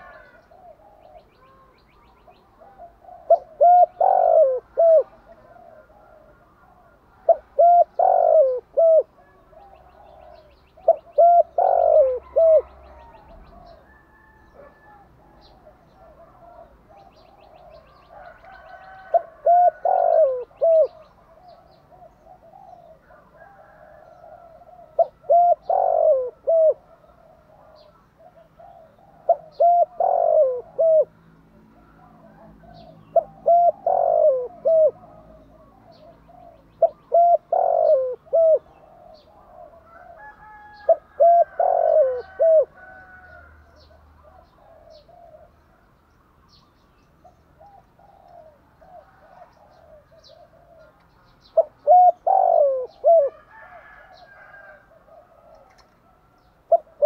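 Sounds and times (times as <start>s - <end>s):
dove cooing: 0.0s - 45.9s, 47.2s - 57.0s.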